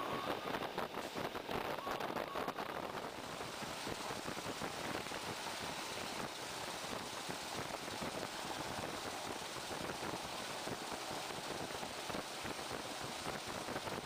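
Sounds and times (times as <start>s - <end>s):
moving train running noise: 0.0s - 14.0s
wind buffeting microphone: 0.0s - 14.0s.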